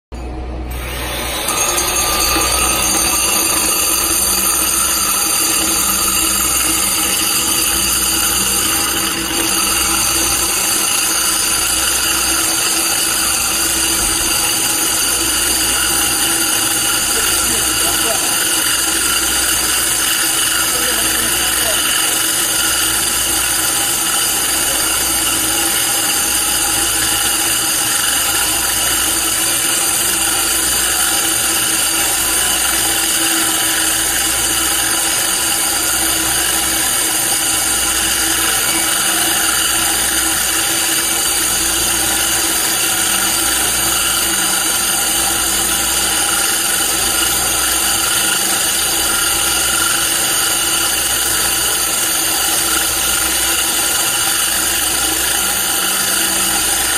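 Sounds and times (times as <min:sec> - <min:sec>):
air blow gun hissing: 0:00.7 - 0:56.9
core drill grinding into stone: 0:00.7 - 0:56.9.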